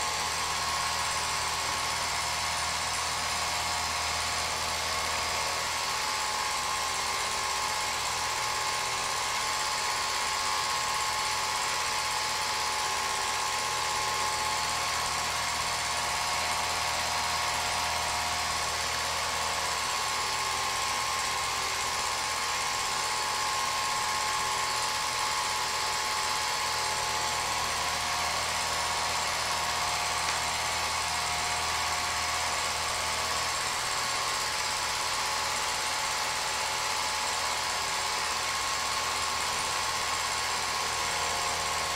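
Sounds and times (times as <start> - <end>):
film projector motor whir: 0.0 - 41.9.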